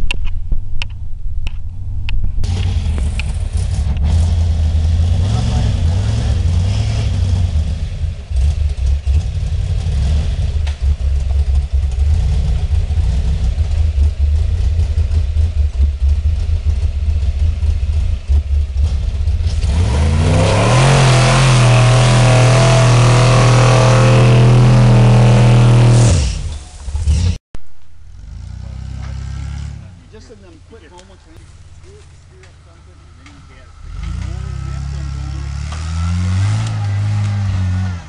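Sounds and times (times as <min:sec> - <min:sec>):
truck engine revving: 0:02.4 - 0:27.4, 0:28.0 - 0:38.0.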